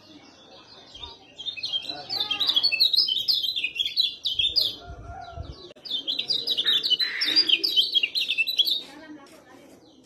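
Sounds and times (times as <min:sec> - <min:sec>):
bird chirping rapidly: 0:00.0 - 0:04.8, 0:05.7 - 0:08.9.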